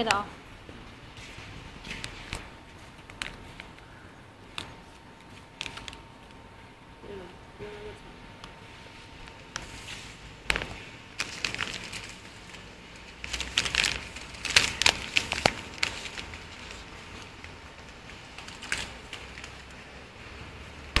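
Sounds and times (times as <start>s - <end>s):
plastic packs crinkling: 1.0s - 7.2s, 7.8s - 21.0s.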